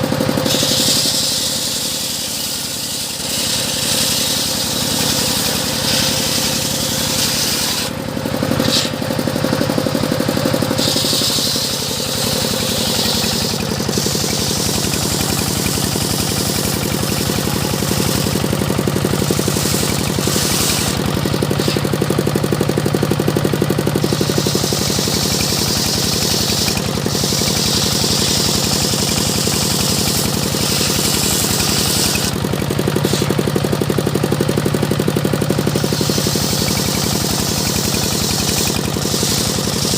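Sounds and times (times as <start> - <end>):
circular saw cutting wood: 0.0 - 22.2, 23.9 - 33.5, 35.4 - 39.9
engine humming: 0.0 - 39.9.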